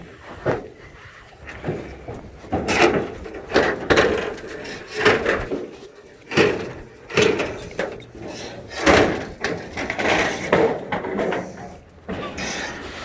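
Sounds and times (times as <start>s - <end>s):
wooden boards knocking and scraping: 0.2s - 13.0s.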